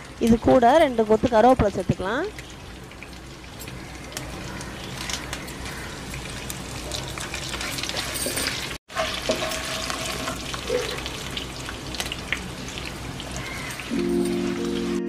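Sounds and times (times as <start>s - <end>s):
hot oil sizzling in a frying pan: 0.0s - 15.0s.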